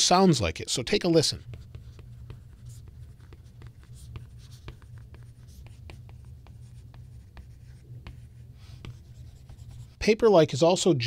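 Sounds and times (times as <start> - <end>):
steady low hum: 0.5 - 10.2
stylus scratching on screen: 0.8 - 10.1.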